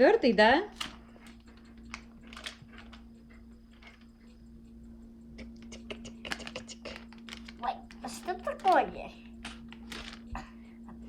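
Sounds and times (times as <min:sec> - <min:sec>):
low hum: 0:00.7 - 0:11.0.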